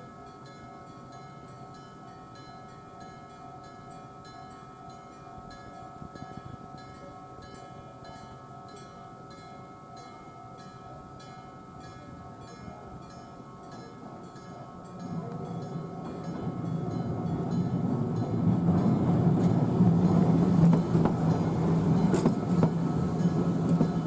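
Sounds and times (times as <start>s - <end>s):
low rumble of approaching tram: 0.0s - 24.0s.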